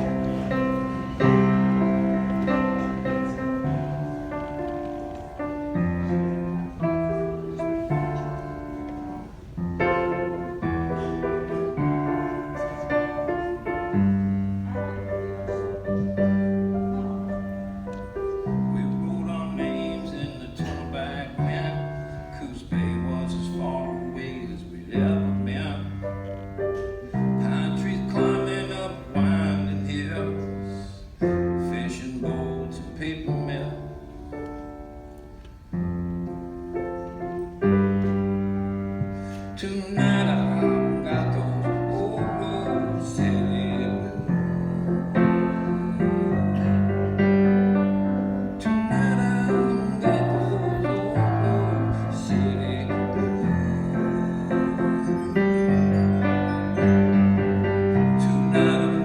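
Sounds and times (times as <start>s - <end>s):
slow piano chords: 0.0s - 59.0s.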